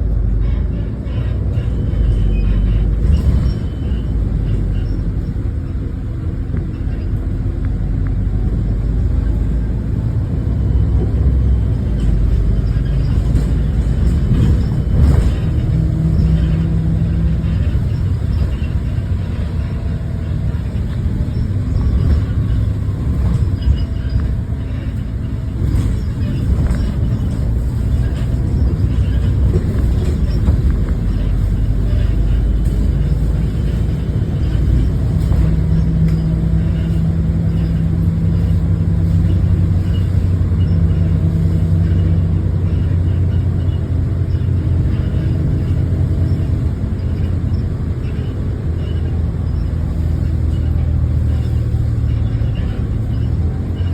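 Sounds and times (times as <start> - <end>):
bus engine rumbling: 0.0 - 53.9.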